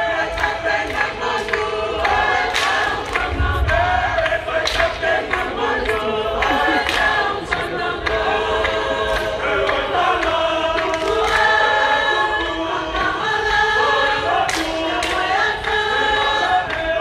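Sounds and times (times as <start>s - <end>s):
group singing in harmony: 0.0s - 17.0s.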